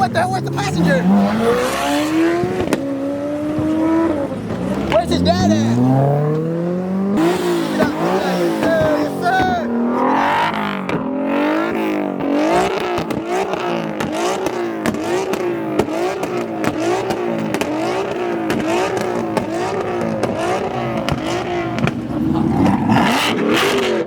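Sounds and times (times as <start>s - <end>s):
car engine revving: 0.0s - 24.0s
sharp exhaust pops: 0.0s - 24.0s.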